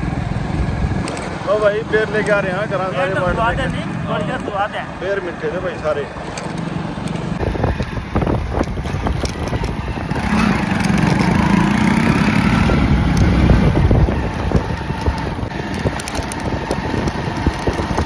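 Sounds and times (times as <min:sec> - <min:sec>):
motorcycle riding: 0:00.0 - 0:18.0
road noise: 0:00.0 - 0:18.0.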